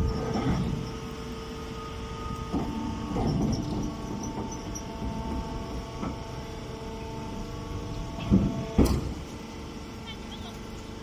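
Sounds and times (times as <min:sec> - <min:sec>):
baling machine humming: 0:00.0 - 0:11.0.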